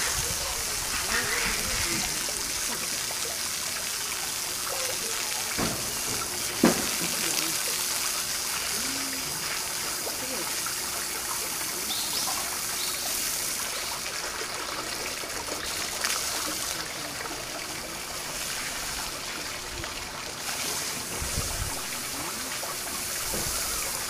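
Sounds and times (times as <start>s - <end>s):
trickle of running water: 0.0s - 24.0s.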